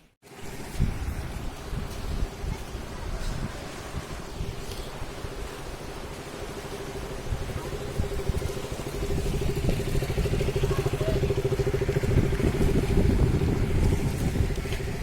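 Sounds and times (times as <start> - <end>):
motorcycle engine rumbling: 0.3 - 15.0.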